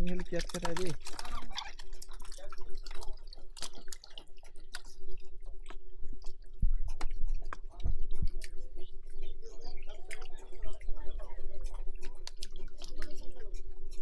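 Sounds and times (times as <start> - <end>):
water sloshing and dripping: 0.0 - 13.5.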